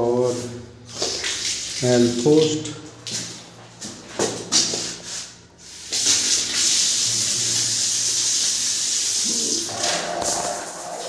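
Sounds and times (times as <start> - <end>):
tap water splashing on floor: 0.8 - 5.2, 5.8 - 11.0.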